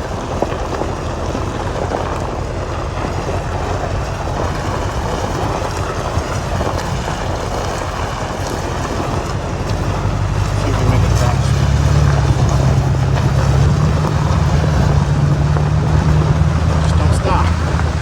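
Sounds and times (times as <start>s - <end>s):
road noise on dirt road: 0.0s - 18.0s
truck engine drone: 0.0s - 18.0s.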